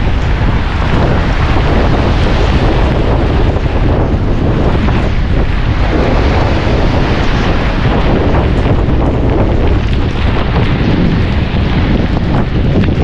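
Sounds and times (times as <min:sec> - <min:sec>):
surf breaking on shore: 0:00.0 - 0:13.0
wind buffeting microphone: 0:00.0 - 0:13.0.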